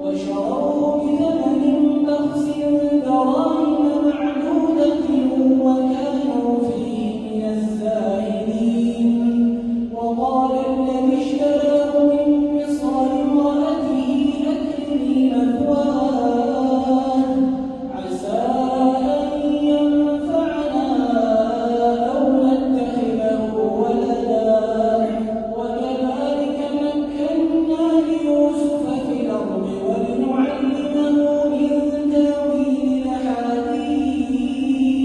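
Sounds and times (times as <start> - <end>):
man chanting melodically: 0.0 - 35.0.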